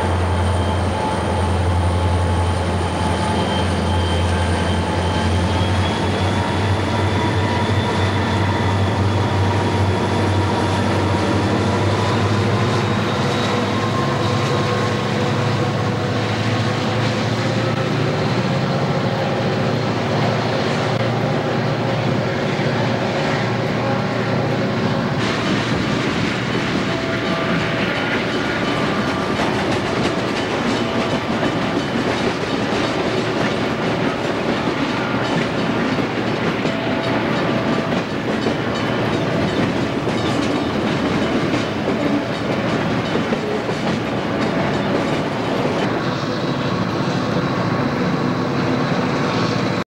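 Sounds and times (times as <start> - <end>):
freight train wheels clattering on rails: 0.0 - 49.8.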